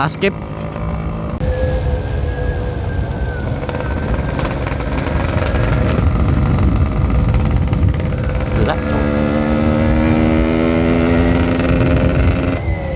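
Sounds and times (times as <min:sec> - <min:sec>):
motorcycle two-stroke engine running: 0:00.0 - 0:01.4, 0:03.6 - 0:12.6.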